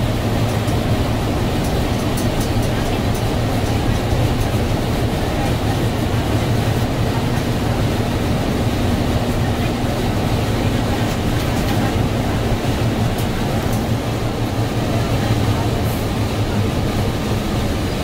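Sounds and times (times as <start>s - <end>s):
bus engine humming: 0.0s - 18.0s
road and tyre noise: 0.0s - 18.0s.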